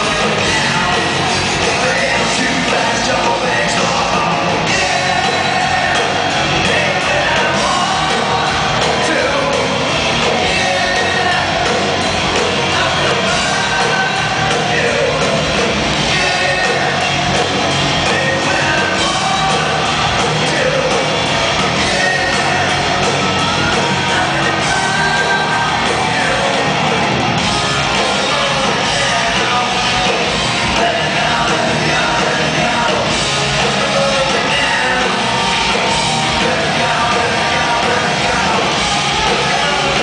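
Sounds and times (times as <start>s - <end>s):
man singing: 0.0s - 27.0s, 27.9s - 40.0s
hard rock band playing: 0.0s - 40.0s.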